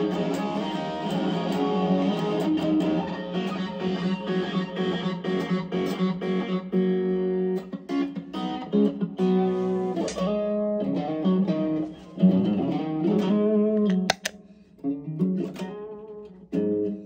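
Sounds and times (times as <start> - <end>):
overdriven electric guitar: 0.0 - 17.0.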